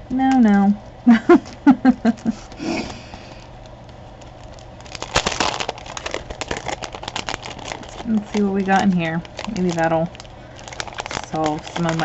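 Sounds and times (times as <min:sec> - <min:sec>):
packaging rustling and crinkling: 0:01.4 - 0:12.0.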